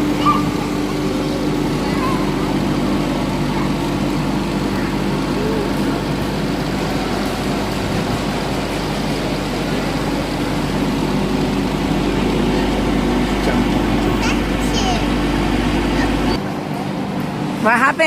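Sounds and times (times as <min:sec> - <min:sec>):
electric air blower humming: 0:00.0 - 0:17.6.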